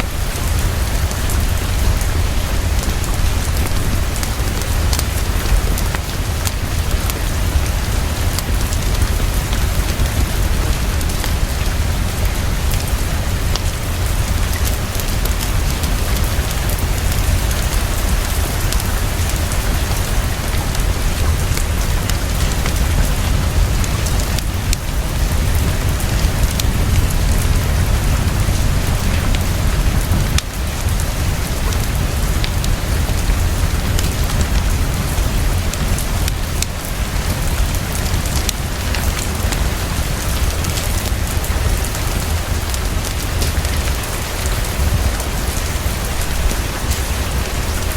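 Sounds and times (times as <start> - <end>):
deep low rumble: 0.0 - 43.9
heavy rain falling: 0.0 - 47.9.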